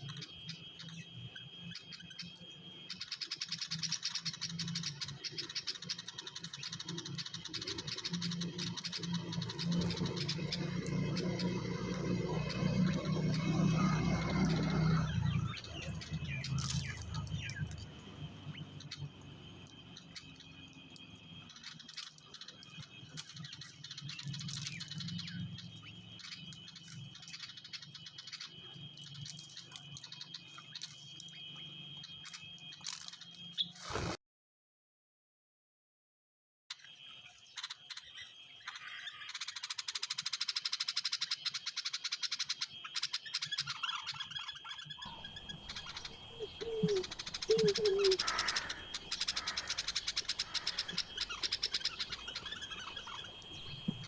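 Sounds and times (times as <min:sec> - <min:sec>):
small birds chirping: 0:00.0 - 0:34.2, 0:36.7 - 0:54.0
steady high-pitched whine: 0:00.0 - 0:34.2, 0:36.7 - 0:54.0.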